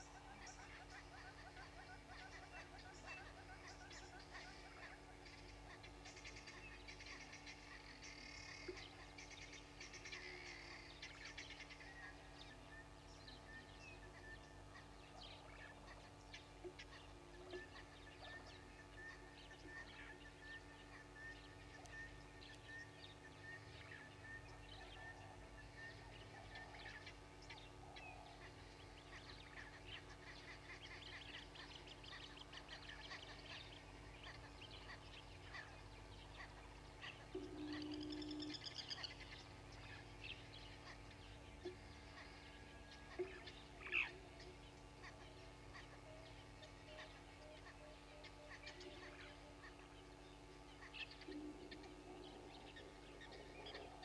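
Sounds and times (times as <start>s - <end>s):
birds chirping and trilling: 0.0s - 54.0s
steady low hum: 0.0s - 54.0s.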